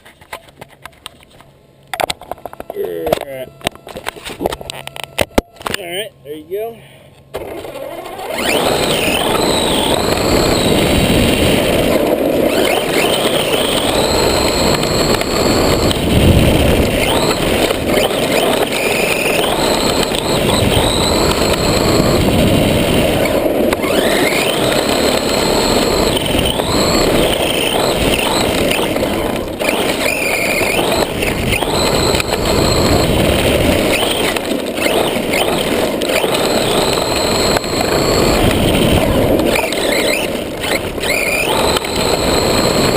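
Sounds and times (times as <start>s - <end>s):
electric motor whining: 2.2s - 6.7s, 7.3s - 42.9s.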